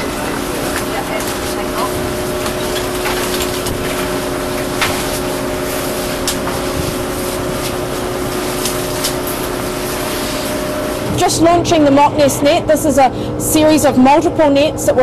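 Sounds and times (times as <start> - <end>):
ship machinery droning: 0.0 - 15.0.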